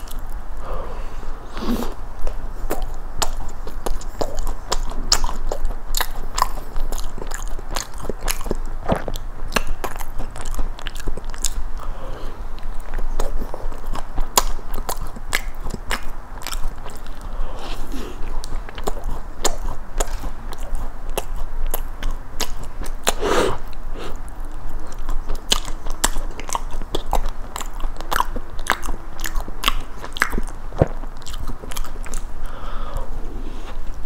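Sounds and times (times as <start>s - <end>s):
biting and chewing cookie: 0.0s - 34.0s.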